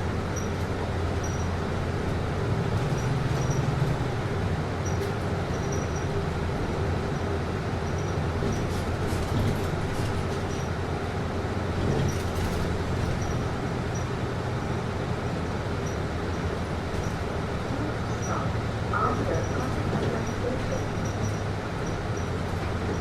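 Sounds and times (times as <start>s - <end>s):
bus engine drone: 0.0s - 23.0s.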